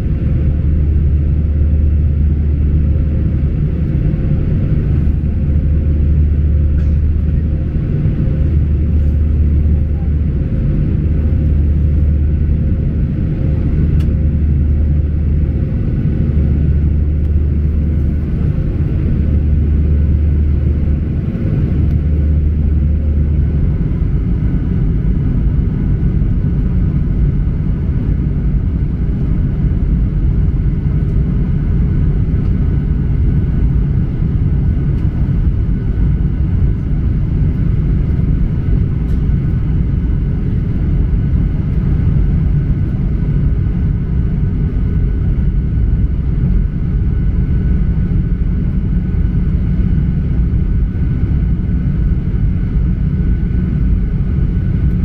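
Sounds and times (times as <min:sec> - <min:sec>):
deep hum: 0:00.0 - 0:55.0
jet engines rumbling: 0:00.0 - 0:55.0.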